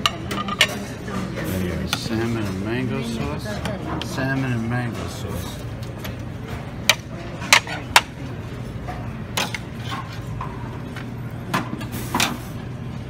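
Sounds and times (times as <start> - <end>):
low buffet background hum: 0.0 - 13.0.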